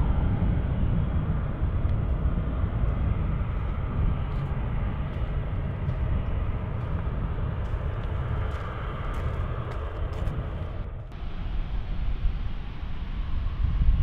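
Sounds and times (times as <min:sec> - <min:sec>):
jet engines at high thrust: 0:00.0 - 0:14.0.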